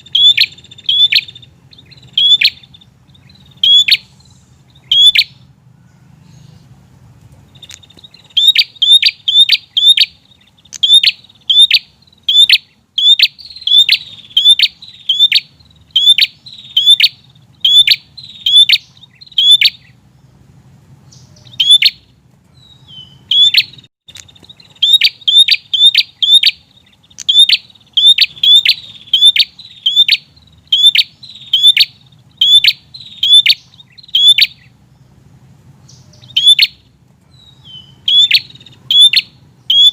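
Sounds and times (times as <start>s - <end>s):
bird sharp high chirps: 0.0s - 6.8s, 7.4s - 20.4s, 21.0s - 39.9s.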